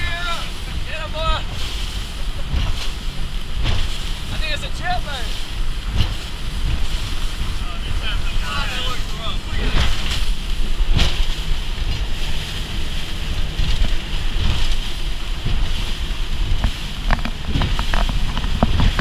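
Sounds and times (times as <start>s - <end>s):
outboard engines at high speed: 0.0s - 19.0s
water rushing along hull: 0.0s - 19.0s
wind buffeting microphone: 0.0s - 19.0s.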